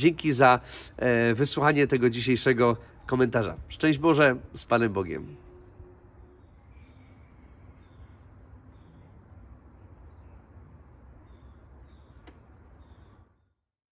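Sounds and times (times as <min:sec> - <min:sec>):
high bird calls: 0:00.0 - 0:13.5.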